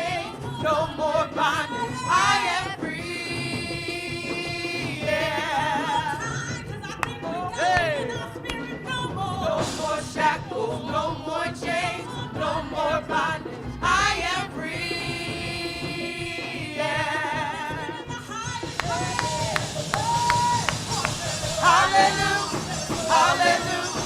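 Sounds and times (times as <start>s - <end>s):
gospel singing with vibrato: 0.0s - 24.0s
instrumental backing: 0.0s - 24.0s.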